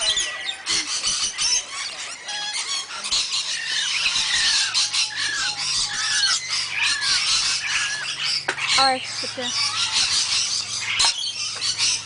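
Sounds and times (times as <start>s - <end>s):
parrots screeching and chattering: 0.0s - 12.0s.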